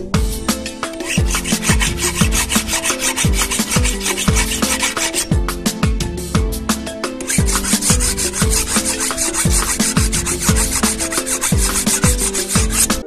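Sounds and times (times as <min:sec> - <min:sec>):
held keyboard chords: 0:00.0 - 0:13.0
deep drum beat: 0:00.1 - 0:13.0
fast scraping percussion: 0:00.4 - 0:05.8, 0:06.7 - 0:13.0.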